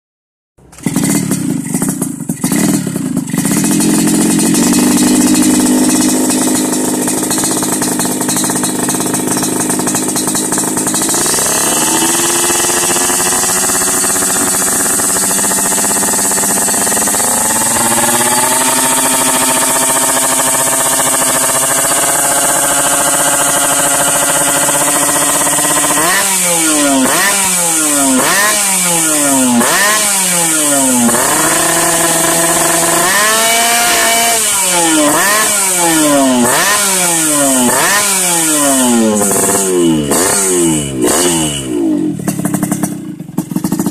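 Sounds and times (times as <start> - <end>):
two-stroke motorcycle engine revving: 0.6 - 43.9.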